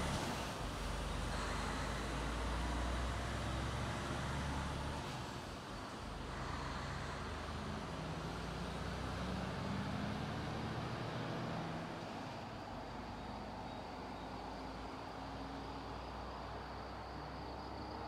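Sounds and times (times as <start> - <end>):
truck engine: 0.0 - 18.0.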